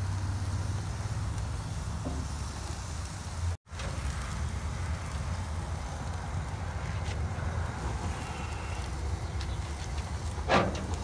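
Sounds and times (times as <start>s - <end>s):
chicken sizzling hiss: 0.0s - 11.0s
gas grill rumble: 0.0s - 11.0s.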